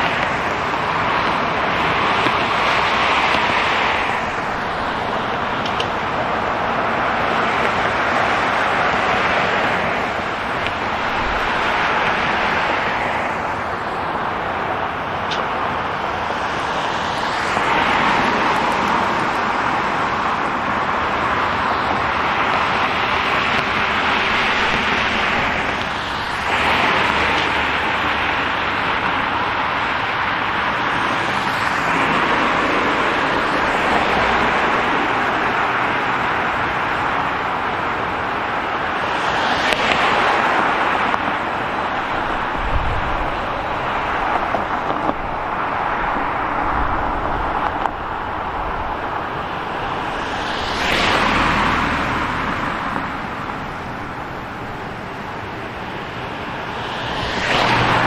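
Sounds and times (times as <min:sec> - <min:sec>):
cars passing with tyre hiss: 0:00.0 - 0:58.0.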